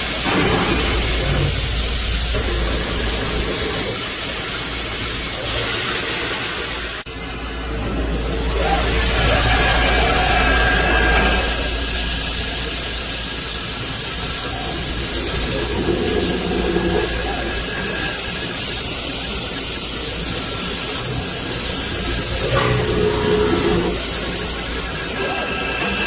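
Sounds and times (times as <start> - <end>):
drilling machine hissing: 0.0 - 26.0.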